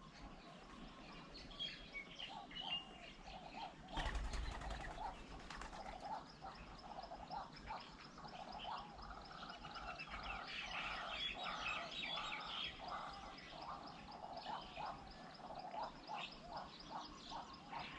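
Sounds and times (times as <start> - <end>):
birds calling and chattering: 0.0 - 17.9.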